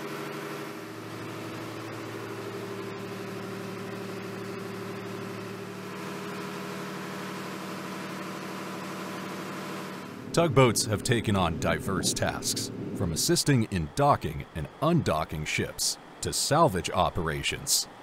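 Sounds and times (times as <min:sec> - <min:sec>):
marine diesel engines droning: 0:00.0 - 0:18.0.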